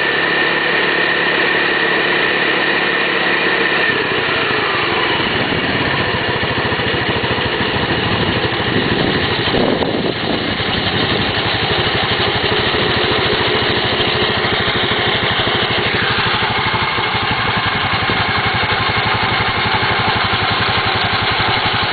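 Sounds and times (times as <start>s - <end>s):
scooter engine running: 0.0s - 21.9s.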